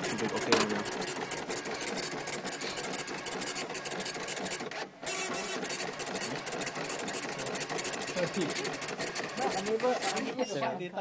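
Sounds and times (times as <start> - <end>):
dot-matrix printer rattling: 0.0 - 10.7.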